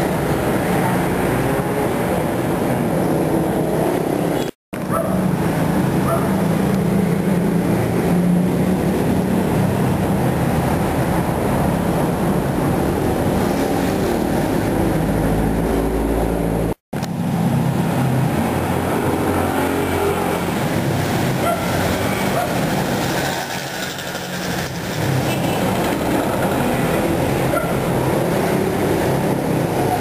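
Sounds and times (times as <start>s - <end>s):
roadside traffic noise: 0.0s - 30.0s.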